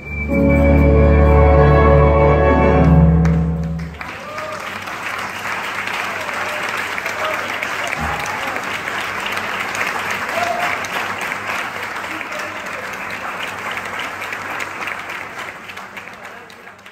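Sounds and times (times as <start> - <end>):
audience applauding: 2.7 - 16.9.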